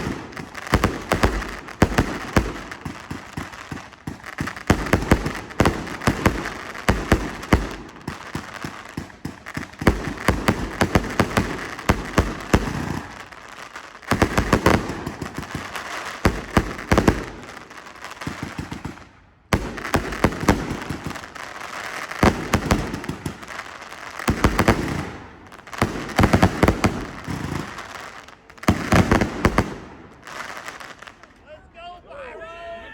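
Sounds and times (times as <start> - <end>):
fireworks firing with crackling: 0.0 - 31.4.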